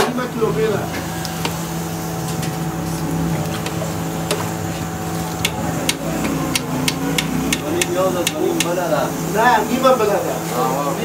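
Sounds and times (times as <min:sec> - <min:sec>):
broth running off: 0:00.0 - 0:11.0
steady mechanical hum: 0:00.0 - 0:11.0.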